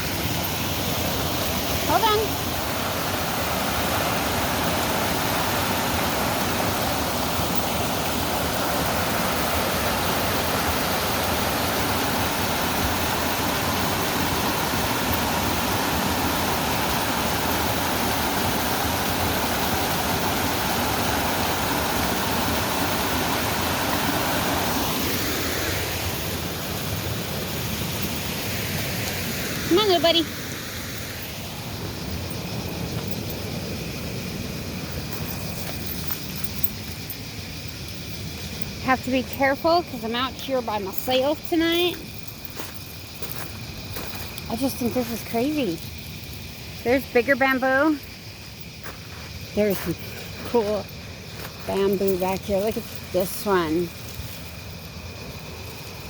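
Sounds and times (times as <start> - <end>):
river water rushing: 0.0 - 56.0
small waterfall: 0.0 - 56.0.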